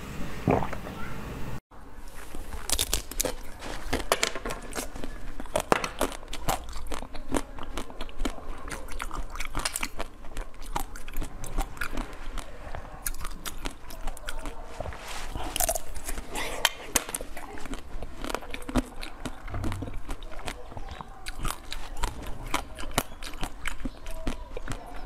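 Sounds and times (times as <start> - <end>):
chewing: 2.1 - 25.0
crunching frozen dessert shell: 2.1 - 25.0.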